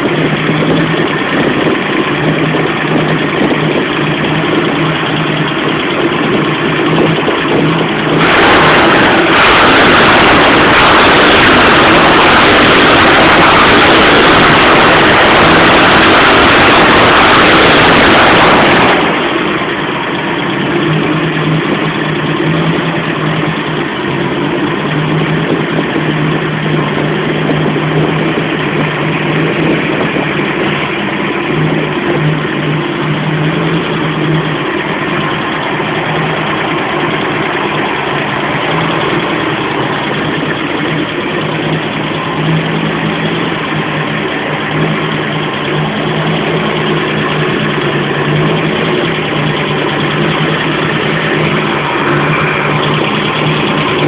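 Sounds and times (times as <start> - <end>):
engine idling: 0.0 - 54.0
engine running at high revs: 0.0 - 54.0.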